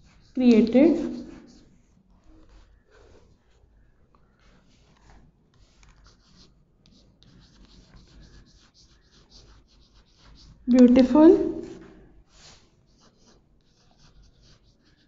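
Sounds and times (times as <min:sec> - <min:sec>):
chalk scratching on chalkboard: 0:00.0 - 0:03.4, 0:04.4 - 0:15.0.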